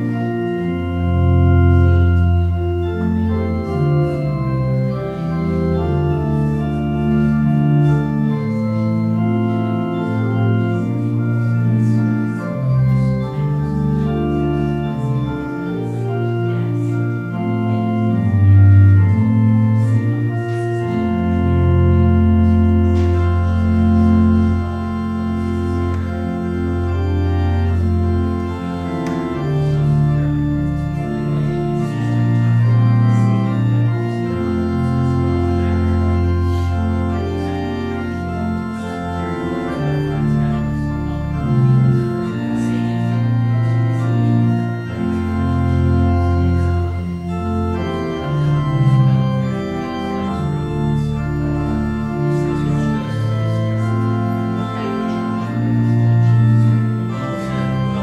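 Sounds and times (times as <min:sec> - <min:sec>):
organ playing held chords: 0:00.0 - 0:58.0.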